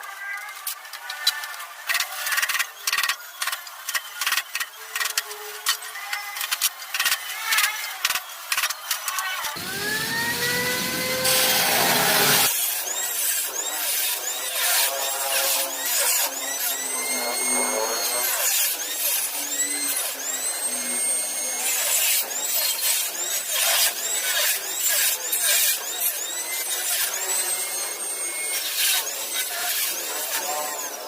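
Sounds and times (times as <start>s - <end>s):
power tool cutting sheet metal: 0.0s - 31.0s.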